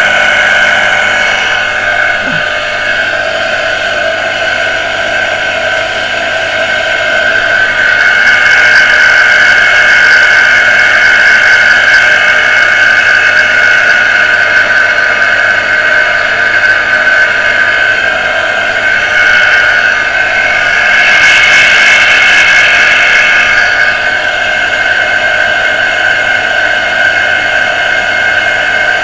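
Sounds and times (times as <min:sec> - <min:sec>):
pump motor high-pitched whine: 0:00.0 - 0:29.0.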